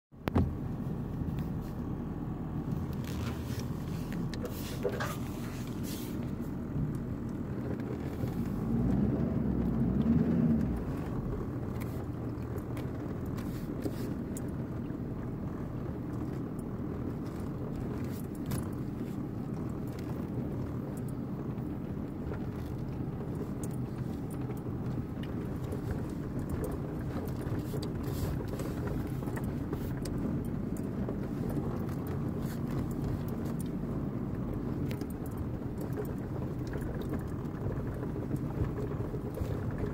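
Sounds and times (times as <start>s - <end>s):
vehicle engine and tyre noise: 0.1s - 39.9s.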